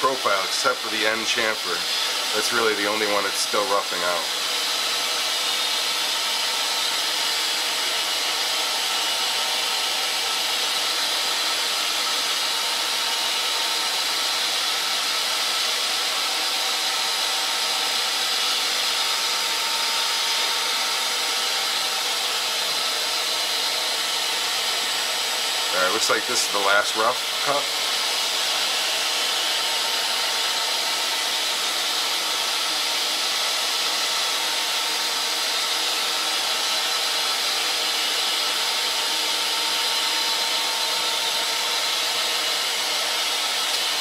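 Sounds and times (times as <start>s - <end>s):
metal lathe whirring: 0.0s - 44.0s.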